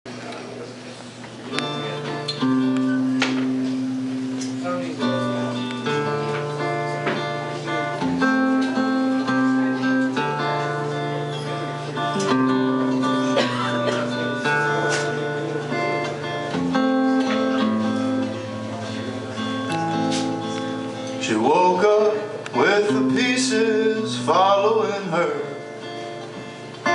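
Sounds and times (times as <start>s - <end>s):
acoustic guitar strumming: 1.5s - 26.9s.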